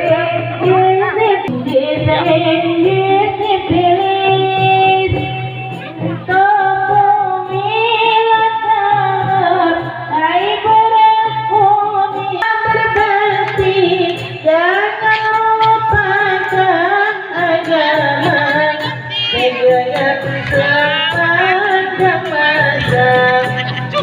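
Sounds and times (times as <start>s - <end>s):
instrumental accompaniment: 0.0s - 24.0s
woman singing slow song: 0.0s - 24.0s.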